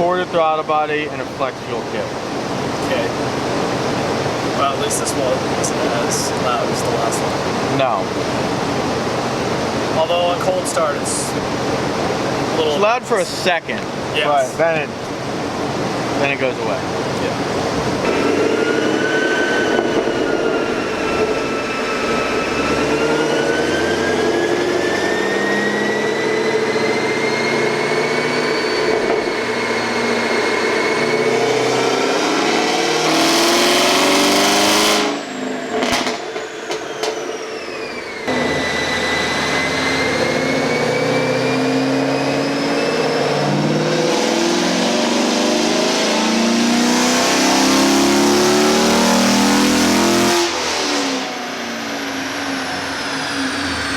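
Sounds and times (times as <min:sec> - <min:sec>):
engine whine climbing in pitch: 0:00.1 - 0:53.9
car engine revving under load: 0:00.2 - 0:53.9.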